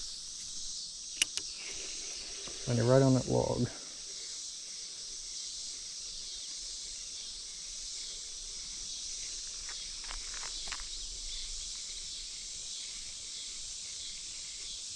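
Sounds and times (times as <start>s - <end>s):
insect chorus drone: 0.0s - 14.9s.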